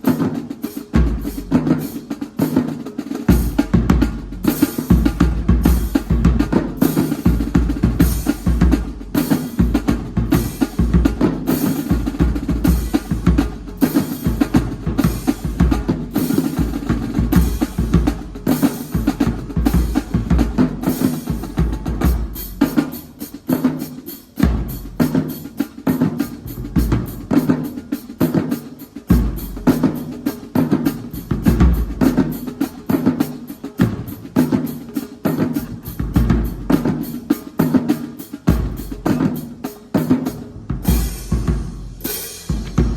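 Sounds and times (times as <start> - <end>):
drums playing driving beat: 0.0 - 42.9.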